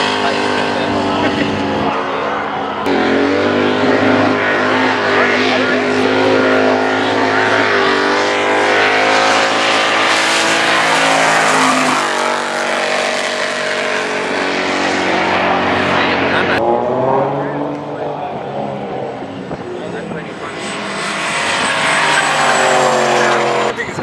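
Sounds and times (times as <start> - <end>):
car engine at high revs: 0.0 - 24.0.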